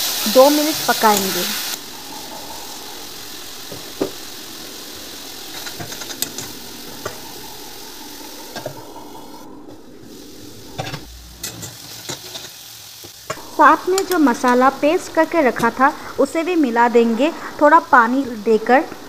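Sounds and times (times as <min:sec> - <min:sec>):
masala sizzling in a pan: 0:00.0 - 0:19.0.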